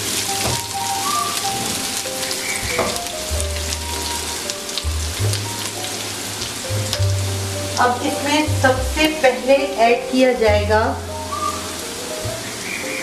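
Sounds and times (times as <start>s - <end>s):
background music: 0.0s - 13.0s
food sizzling in hot oil: 0.0s - 13.0s.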